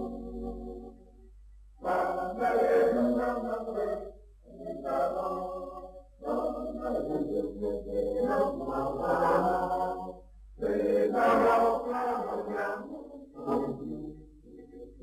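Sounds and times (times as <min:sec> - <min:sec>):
group singing a chant: 0:00.0 - 0:01.0, 0:01.8 - 0:15.0.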